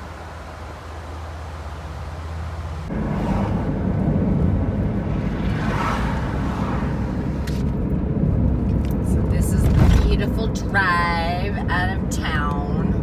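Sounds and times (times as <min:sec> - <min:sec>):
car engine rumble: 0:00.0 - 0:13.0
road and tyre noise: 0:00.0 - 0:13.0.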